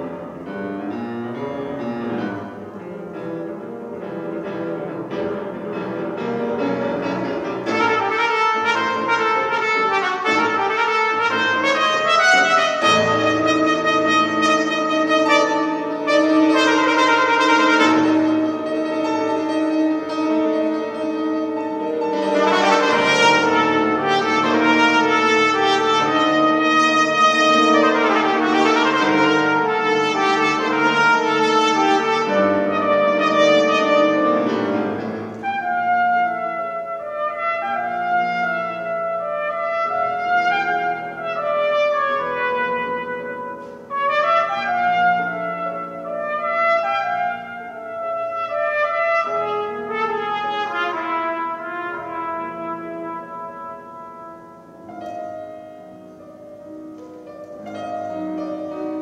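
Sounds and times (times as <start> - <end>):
piano accompaniment: 0.0 - 59.0
trumpet playing: 6.2 - 56.2.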